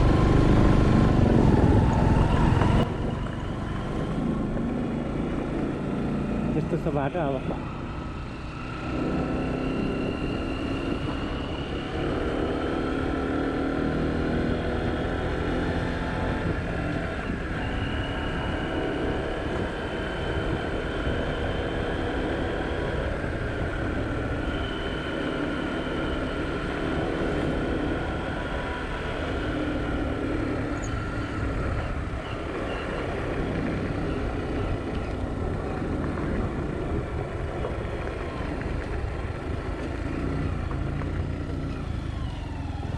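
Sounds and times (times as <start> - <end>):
road noise: 0.0 - 42.9.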